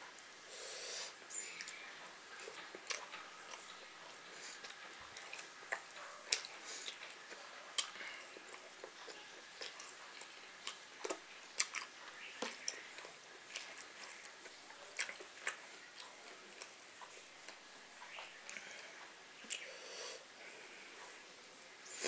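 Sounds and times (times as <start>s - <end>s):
person chewing food: 1.1s - 21.2s.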